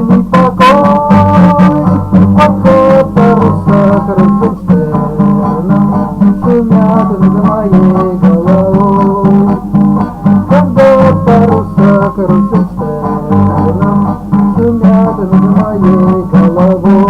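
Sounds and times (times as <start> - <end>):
strummed guitar song: 0.0 - 17.0.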